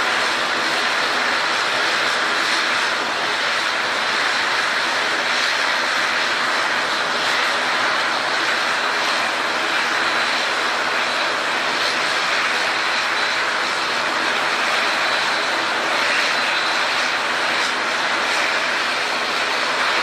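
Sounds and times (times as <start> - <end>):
airliner engines running: 0.0 - 20.0.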